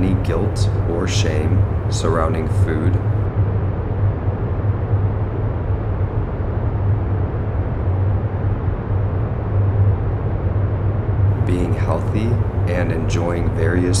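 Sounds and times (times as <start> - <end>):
deep hum: 0.0 - 14.0
low rumbling noise: 0.0 - 14.0.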